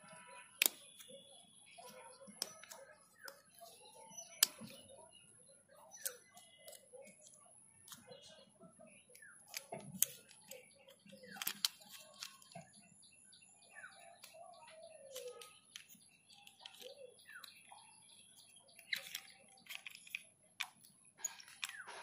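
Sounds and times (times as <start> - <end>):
plastic toy parts clicking: 0.0 - 1.2, 1.8 - 4.9, 5.8 - 12.8, 14.2 - 22.0.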